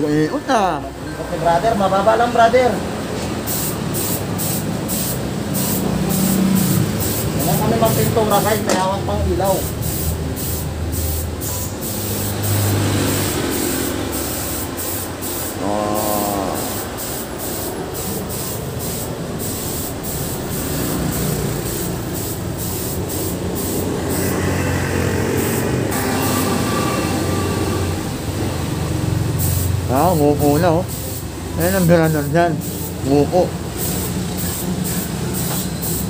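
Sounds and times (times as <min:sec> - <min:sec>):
paint spray gun hissing: 0:03.4 - 0:24.6, 0:25.3 - 0:27.7, 0:29.2 - 0:36.0.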